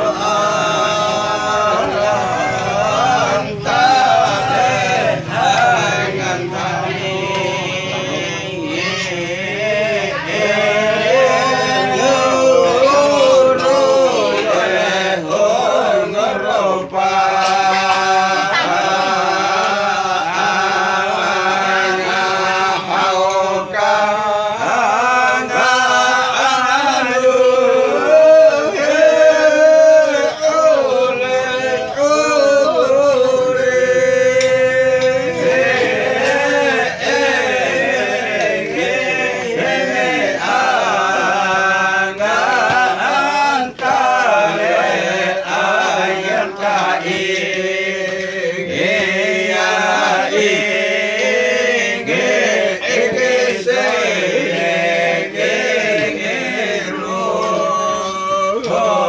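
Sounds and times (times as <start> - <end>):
group of voices chanting: 0.0 - 59.0.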